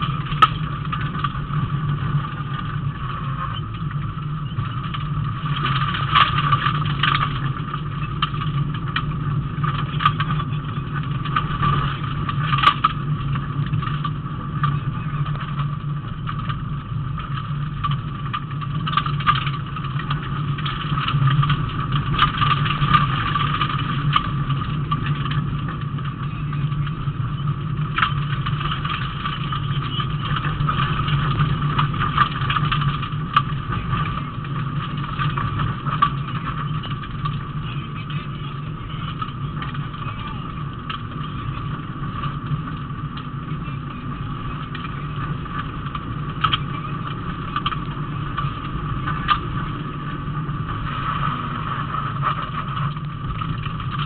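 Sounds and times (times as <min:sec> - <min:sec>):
car engine running at speed: 0:00.0 - 0:54.0
tyre and road noise: 0:00.0 - 0:54.0.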